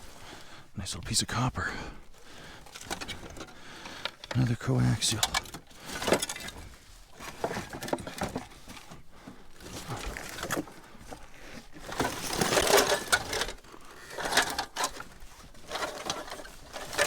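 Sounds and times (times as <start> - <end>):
junk rattling and scraping: 2.0 - 17.0.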